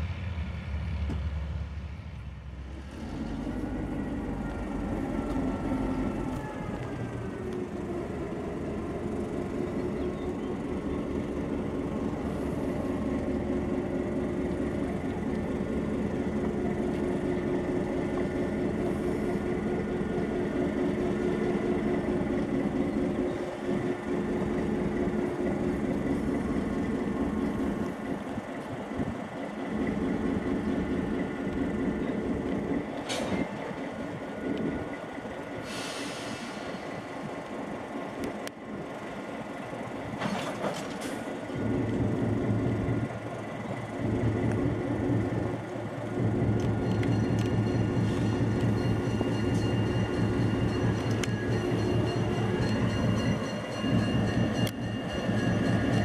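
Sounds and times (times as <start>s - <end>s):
diesel locomotive engine hum: 0.0s - 56.0s.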